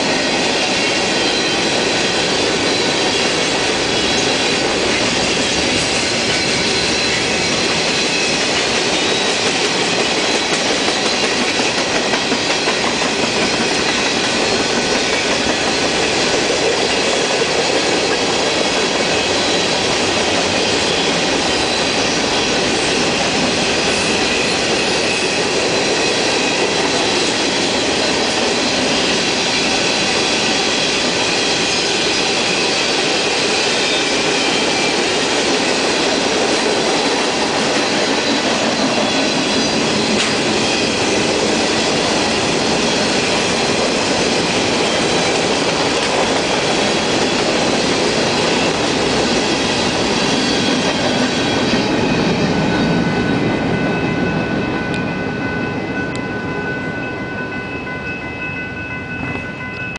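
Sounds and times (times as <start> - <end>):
train wheels clattering on rail: 0.0 - 57.1.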